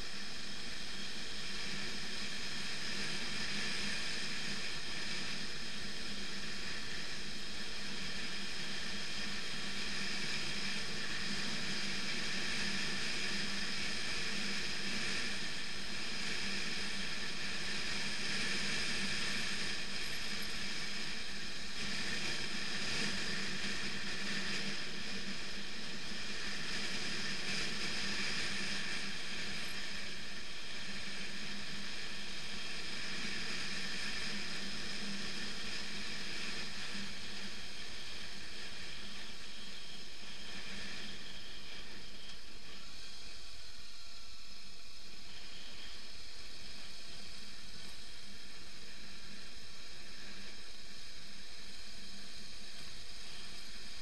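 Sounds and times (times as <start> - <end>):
motorcycle engine hum: 0.0 - 54.0
wind and tyre noise: 0.0 - 54.0.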